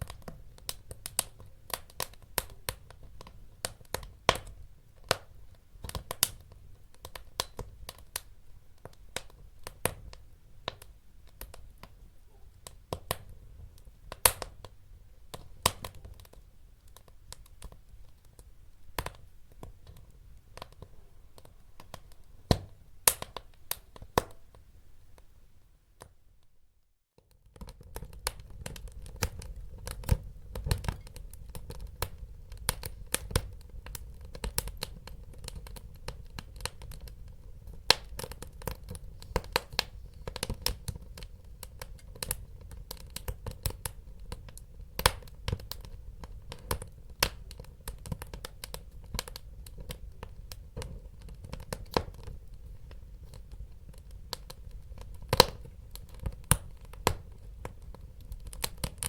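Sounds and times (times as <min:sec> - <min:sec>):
wood fire crackling and popping: 0:00.0 - 0:24.6, 0:27.2 - 0:59.0.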